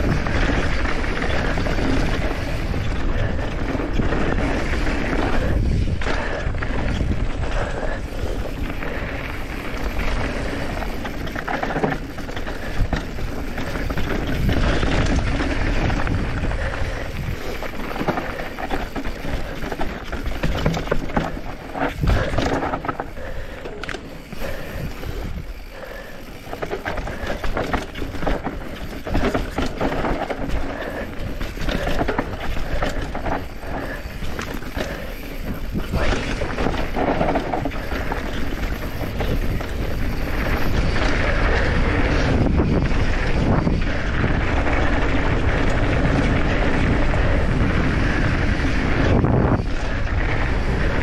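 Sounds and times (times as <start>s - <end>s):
wind on microphone: 0.0s - 23.5s, 24.2s - 51.0s
bike chain and frame rattling: 0.0s - 51.0s
bike tyres on dirt and rocks: 0.0s - 51.0s.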